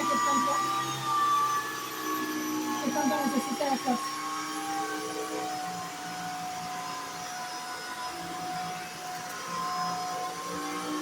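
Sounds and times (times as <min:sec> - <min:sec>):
stick vacuum motor whine: 0:00.0 - 0:11.0.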